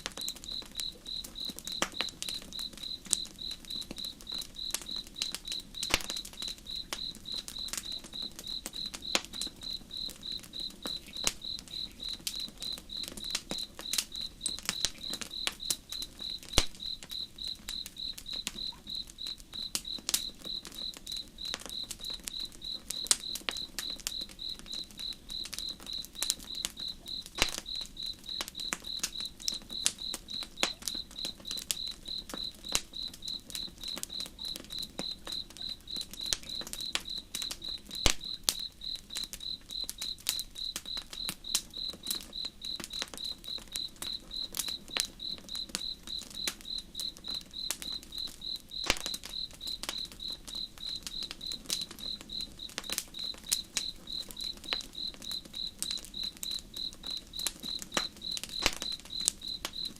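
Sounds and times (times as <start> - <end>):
campfire crackling and popping: 0.0 - 59.9
cricket chirping: 0.0 - 59.9.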